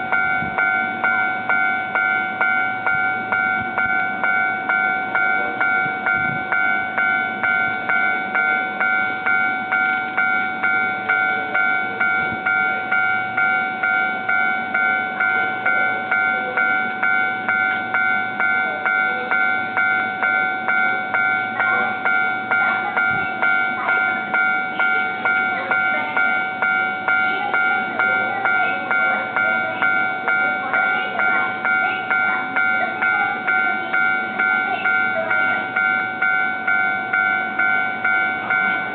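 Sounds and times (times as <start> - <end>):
level crossing warning bell: 0.0 - 38.9
train running: 0.0 - 38.9.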